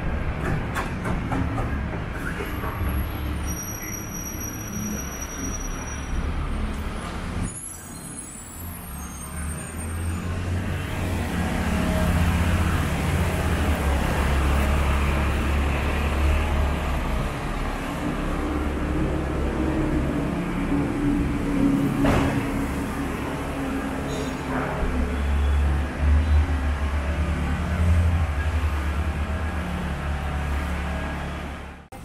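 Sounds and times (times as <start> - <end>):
street traffic: 0.0 - 32.0
truck and bus engines rumbling: 0.0 - 32.0.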